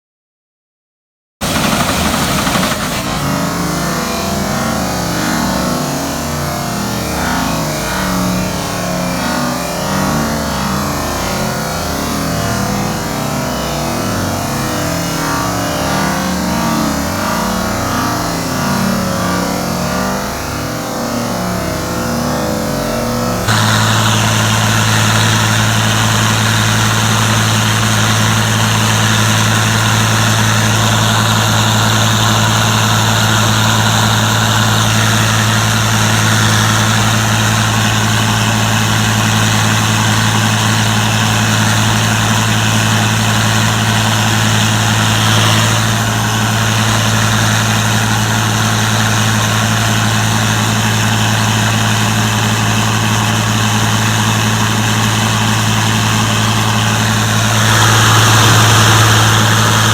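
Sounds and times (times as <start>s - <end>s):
combine harvester engine running: 1.4s - 59.9s.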